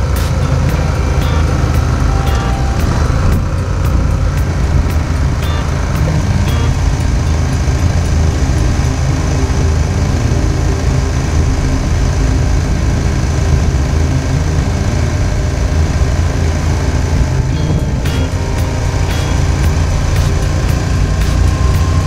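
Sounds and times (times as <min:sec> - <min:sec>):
motorcycle engine running: 0:00.0 - 0:22.0
rushing noise: 0:00.0 - 0:22.0.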